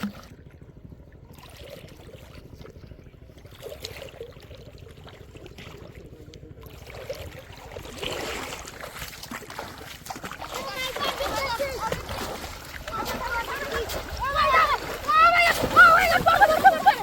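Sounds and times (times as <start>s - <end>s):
river water trickling: 0.0s - 17.0s
small clicks and splashes: 1.2s - 17.0s.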